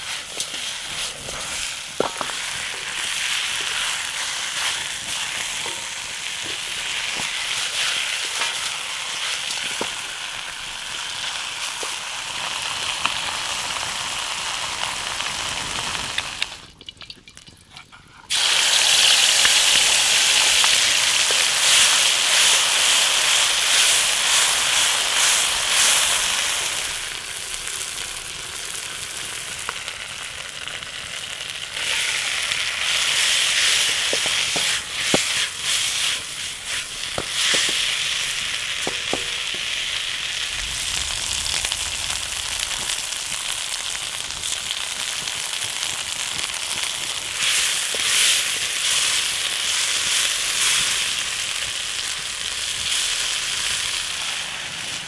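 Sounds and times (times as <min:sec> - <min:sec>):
oil sizzling in a wok: 0:00.0 - 0:16.8, 0:17.8 - 0:55.0.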